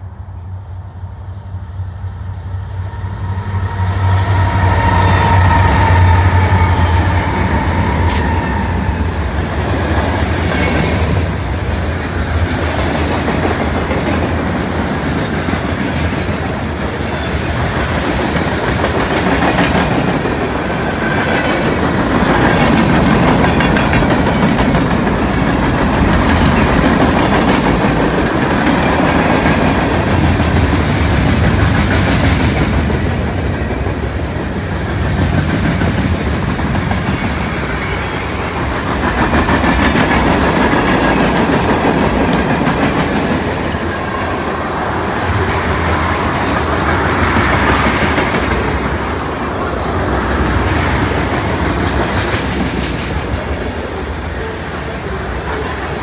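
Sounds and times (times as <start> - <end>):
diesel locomotive drone: 0.0 - 56.0.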